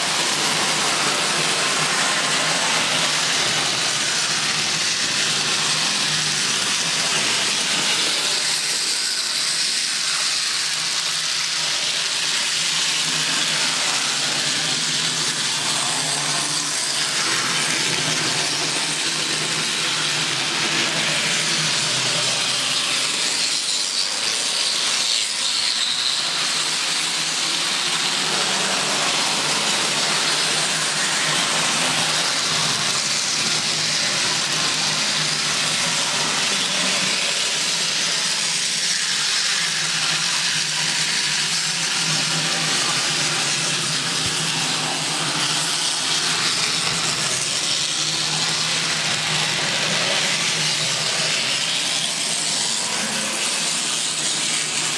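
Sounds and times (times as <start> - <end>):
model trains rolling hiss: 0.0 - 54.9.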